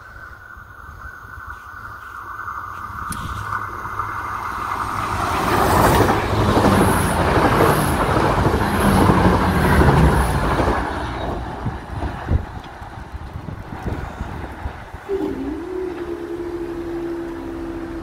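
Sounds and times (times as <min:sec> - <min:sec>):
diesel train rumbling past: 0:00.0 - 0:18.0.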